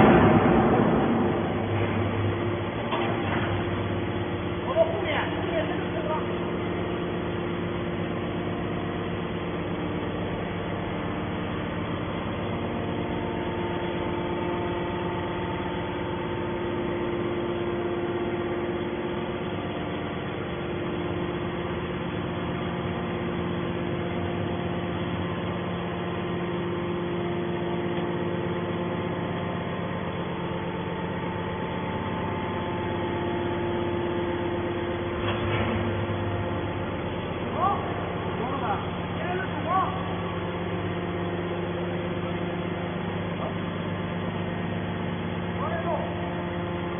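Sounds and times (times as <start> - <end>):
electric motor and pump humming: 0.0 - 46.9.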